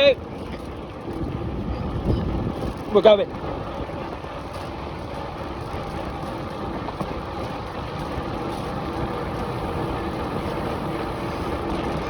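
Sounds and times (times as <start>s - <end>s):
bicycle tyre rumble on rough path: 0.0s - 12.0s
wind on microphone: 0.0s - 12.0s.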